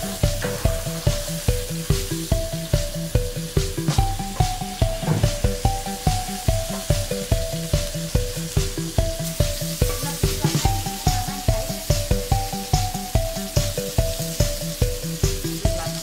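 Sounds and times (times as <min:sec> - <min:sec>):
background music with steady beat: 0:00.0 - 0:16.0
chopsticks stirring in pan: 0:00.0 - 0:16.0
tofu sizzling in oil: 0:00.0 - 0:16.0.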